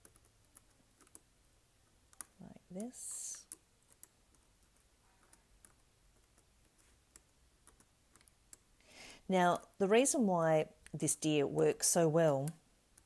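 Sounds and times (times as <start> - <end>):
soft hiss: 1.5 - 13.0.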